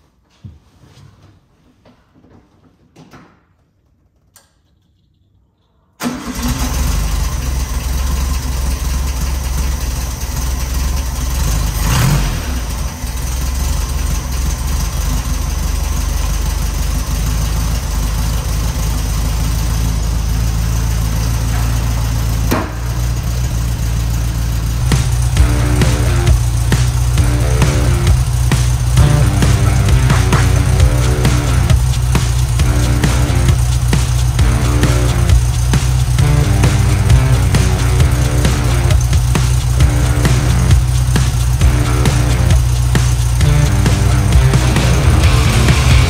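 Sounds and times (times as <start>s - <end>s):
car engine starting and idling: 6.0s - 46.0s.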